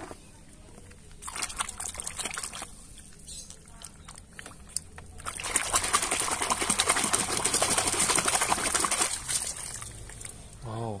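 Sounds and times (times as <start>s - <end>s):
water splashing in a bucket: 1.1s - 10.6s.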